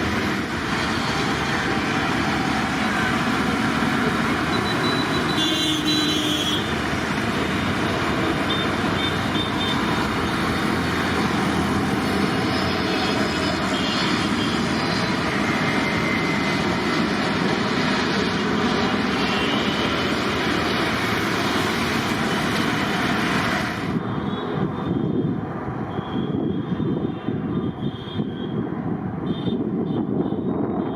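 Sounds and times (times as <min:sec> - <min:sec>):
jet airliner taking off: 0:00.0 - 0:30.9.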